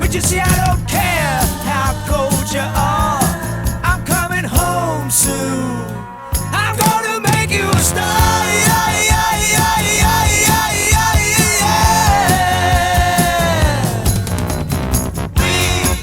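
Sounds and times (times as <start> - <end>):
person singing: 0.0 - 14.2
pop-rock band playing: 0.0 - 16.0.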